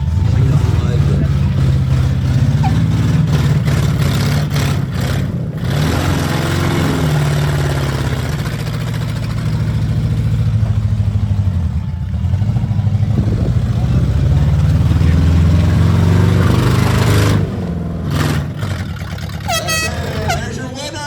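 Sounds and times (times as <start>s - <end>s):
car engines running loudly: 0.0s - 21.0s
engine revving: 0.0s - 21.0s.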